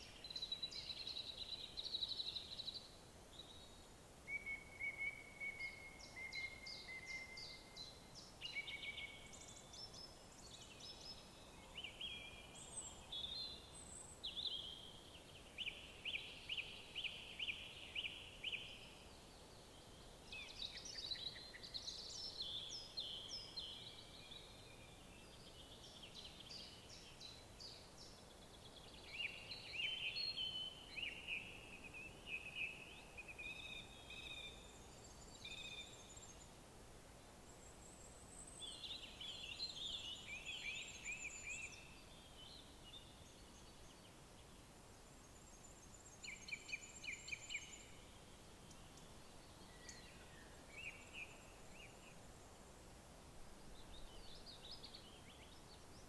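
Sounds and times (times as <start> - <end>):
songbirds singing: 0.0 - 36.6, 37.5 - 52.6, 53.6 - 56.0
faint steady hiss: 0.0 - 56.0.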